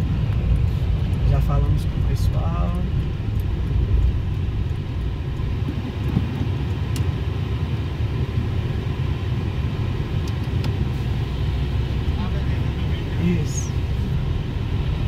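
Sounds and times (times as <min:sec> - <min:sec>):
car rolling slowly: 0:00.0 - 0:15.0.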